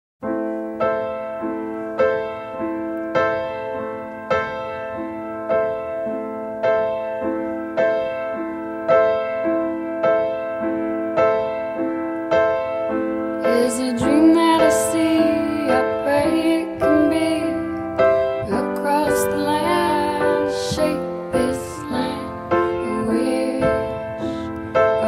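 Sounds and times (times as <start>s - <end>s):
slow solo piano: 0.2s - 25.0s.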